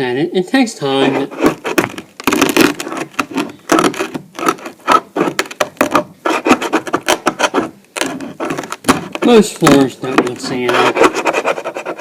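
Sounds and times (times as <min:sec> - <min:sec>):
hand scraper scraping paint: 0:01.0 - 0:12.0.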